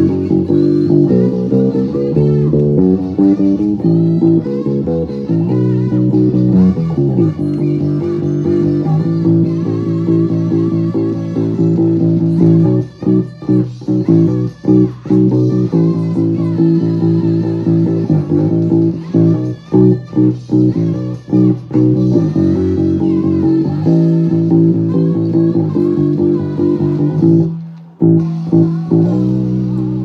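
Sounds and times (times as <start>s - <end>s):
electric bass guitar plucked: 0.0s - 30.0s
song playing: 0.0s - 30.0s.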